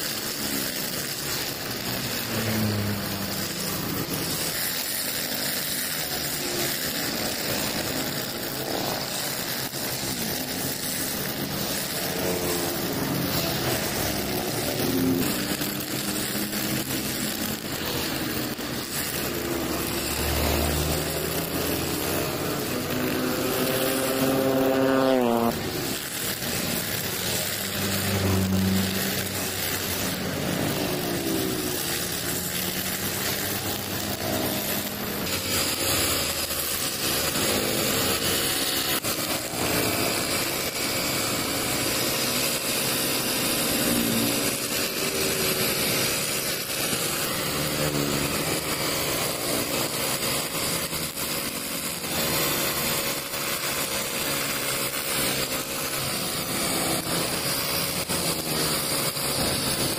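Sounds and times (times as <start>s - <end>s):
brush cutter engine revving: 0.0s - 59.9s
trimmer line cutting grass: 0.0s - 59.9s.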